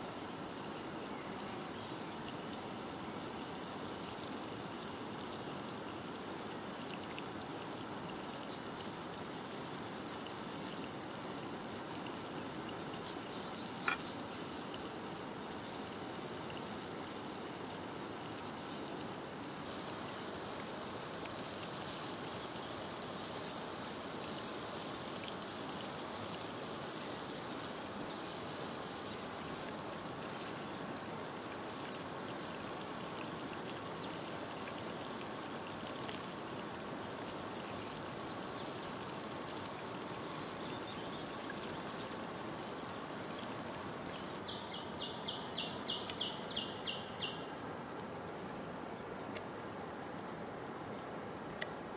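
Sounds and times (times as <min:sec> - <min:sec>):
crackly hiss: 0:00.0 - 0:51.9.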